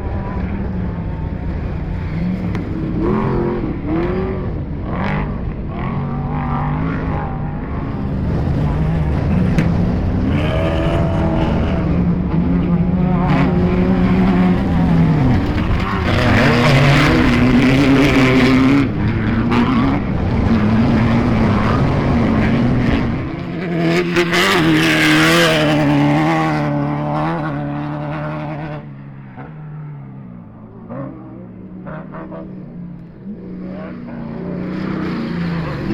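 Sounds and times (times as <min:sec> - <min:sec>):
race car engines revving: 0:00.0 - 0:35.9.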